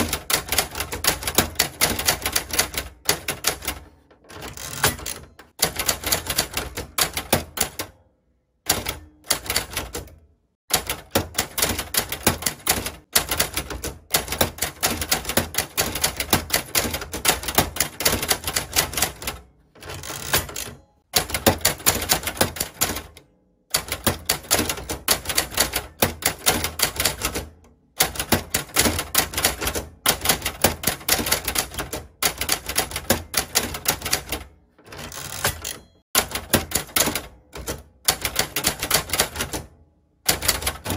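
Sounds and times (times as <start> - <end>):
manual typewriter typing: 0.0 - 8.0, 8.7 - 40.9.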